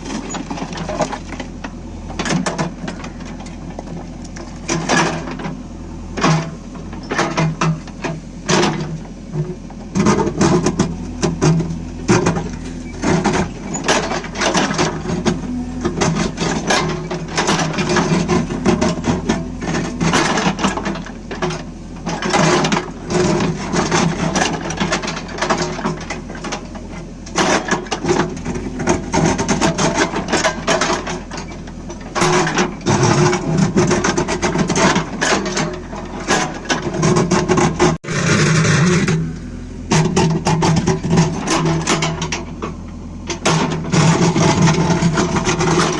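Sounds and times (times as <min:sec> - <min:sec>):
bucket knocks clanks and scrapes: 0:00.0 - 0:45.9
diesel engine under load: 0:00.0 - 0:45.9.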